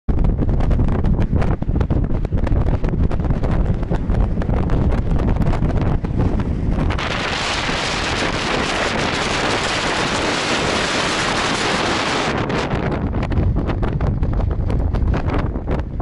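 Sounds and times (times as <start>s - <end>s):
strong wind buffeting microphone: 0.1s - 16.0s.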